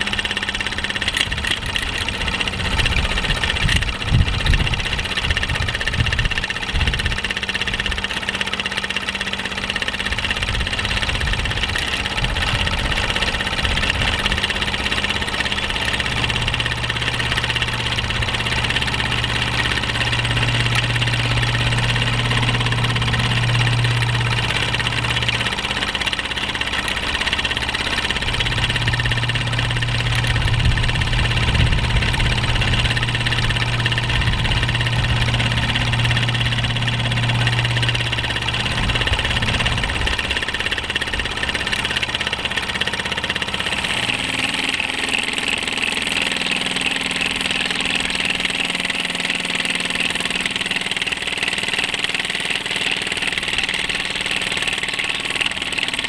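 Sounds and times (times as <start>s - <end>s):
model steam engine running: 0.0s - 56.0s.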